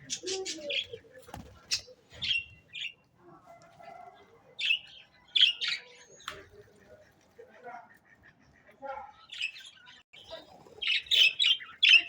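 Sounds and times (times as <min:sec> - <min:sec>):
pet birds chirping: 0:01.7 - 0:12.0.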